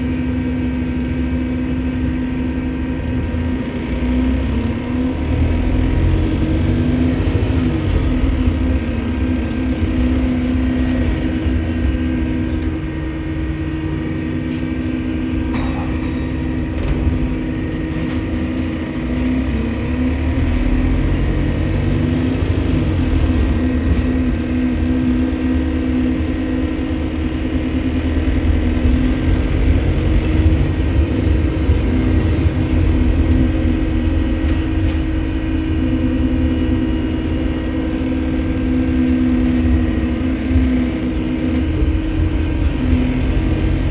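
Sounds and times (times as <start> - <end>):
bus engine droning: 0.0 - 43.9.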